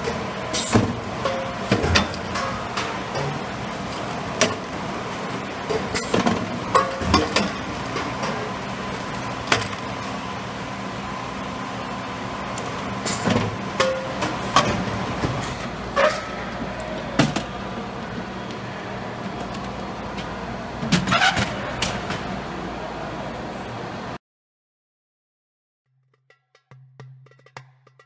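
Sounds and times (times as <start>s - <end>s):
sorting machine humming: 0.0s - 24.2s.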